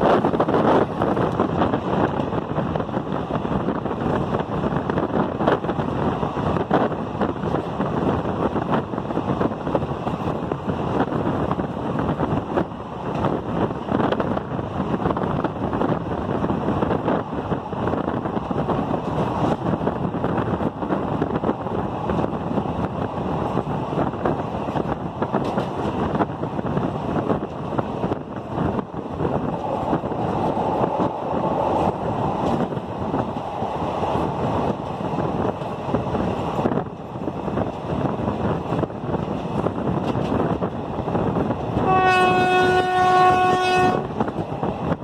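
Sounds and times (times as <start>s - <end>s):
train wheels rushing on rails: 0.0s - 45.0s
wind buffeting microphone: 0.0s - 45.0s.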